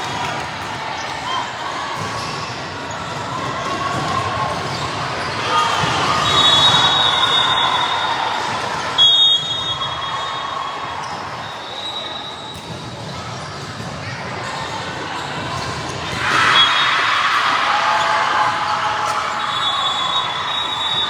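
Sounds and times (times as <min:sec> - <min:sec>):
crowd noise in a hall: 0:00.0 - 0:21.0.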